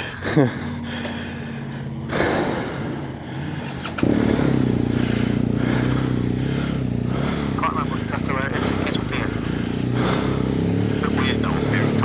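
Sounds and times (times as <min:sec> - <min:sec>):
motorcycle engine idling: 0:00.0 - 0:12.0
louder engine note: 0:00.6 - 0:12.0.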